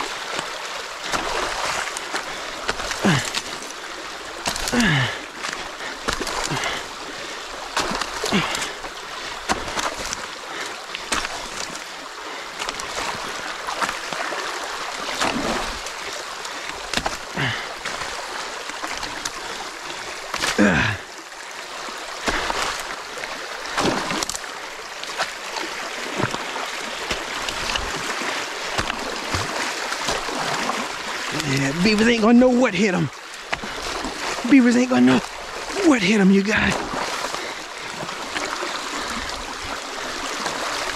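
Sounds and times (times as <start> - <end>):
creek water rushing: 0.0 - 40.9
water splashes: 0.0 - 40.9.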